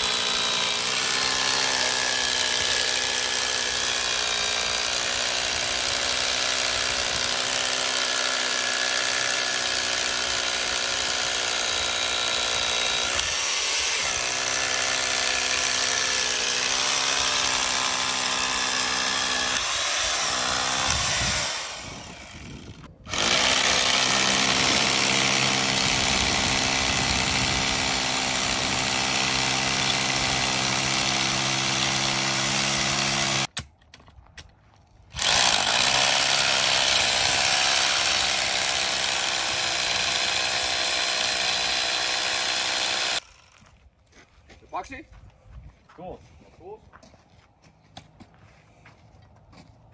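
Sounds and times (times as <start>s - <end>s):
hammer drill boring into concrete: 0.0s - 33.5s, 35.2s - 43.6s.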